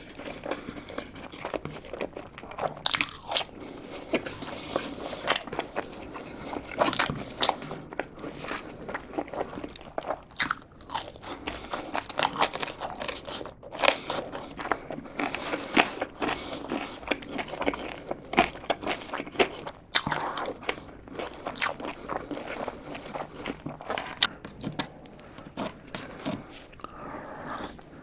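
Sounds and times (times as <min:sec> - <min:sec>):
chewing crunchy fries: 0:00.0 - 0:28.0.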